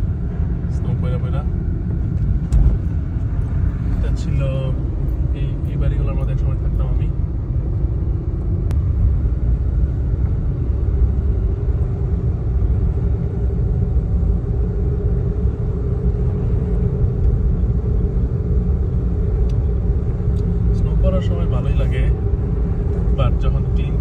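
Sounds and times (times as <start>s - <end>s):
car driving with low rumble: 0.0s - 24.0s.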